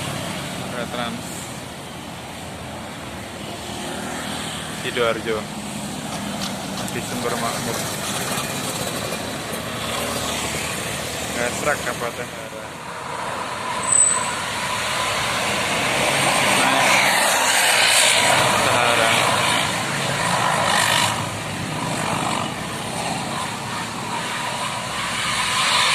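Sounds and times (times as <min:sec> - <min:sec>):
bus passing close by: 0:00.0 - 0:25.9.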